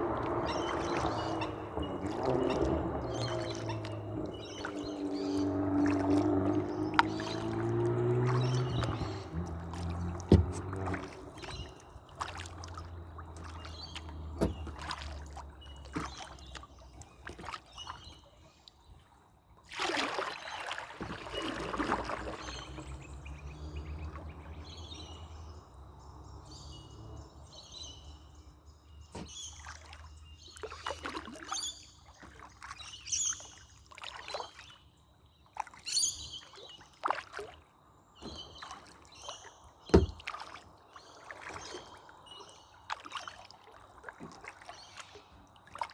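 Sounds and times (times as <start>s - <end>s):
paddle knocks and splashes: 0.0s - 19.0s, 19.6s - 25.9s, 29.0s - 34.8s, 35.5s - 45.9s
birds singing: 0.0s - 19.1s, 21.1s - 37.0s, 37.9s - 43.6s, 44.6s - 45.6s
long swish of water: 0.0s - 45.9s.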